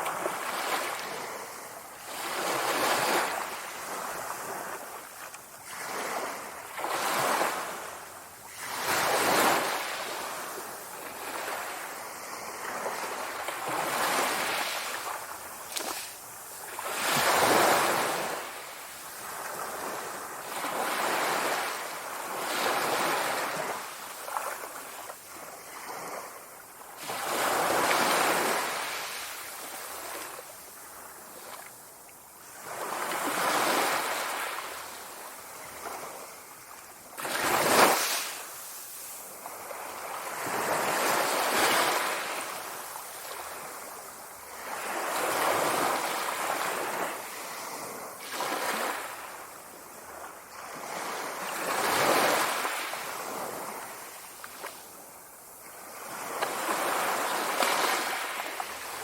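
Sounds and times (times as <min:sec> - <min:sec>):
sea waves washing in: 0:00.0 - 0:31.8, 0:32.4 - 0:59.0.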